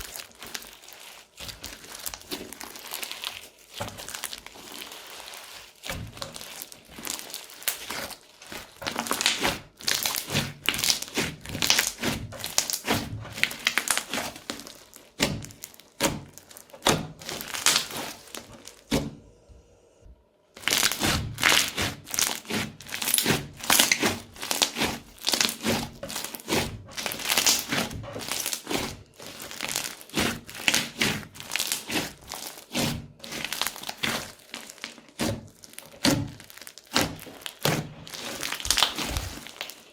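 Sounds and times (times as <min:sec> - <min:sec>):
crunchy slime crackling and popping: 0:00.0 - 0:19.2, 0:20.6 - 0:39.9.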